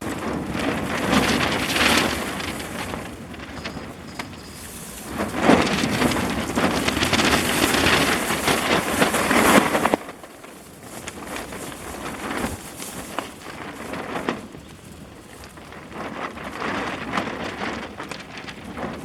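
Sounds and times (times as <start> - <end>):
campfire crackling and hissing: 0.0 - 19.0.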